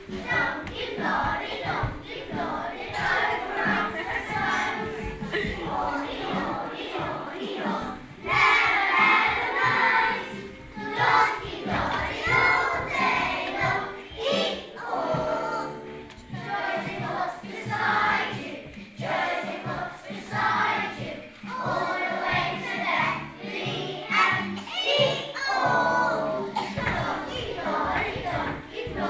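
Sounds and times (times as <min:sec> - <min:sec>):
accompaniment music: 0:00.0 - 0:29.0
children singing: 0:00.0 - 0:29.0.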